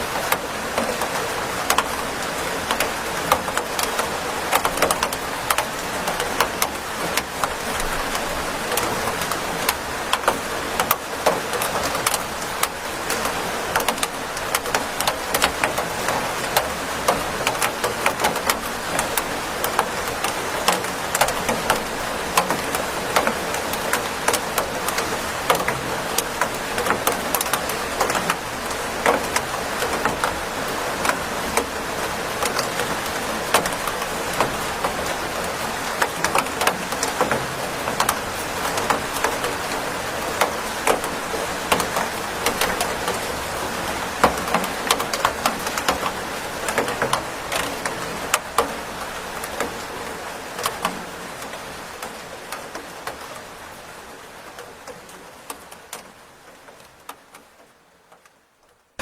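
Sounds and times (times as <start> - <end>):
raindrops ticking on surface: 0.0 - 59.0
steady rain hiss: 0.0 - 59.0.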